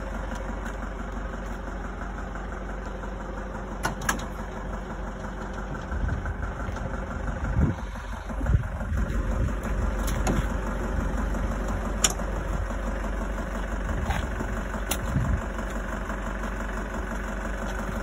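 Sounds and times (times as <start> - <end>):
motor running: 0.0 - 18.0.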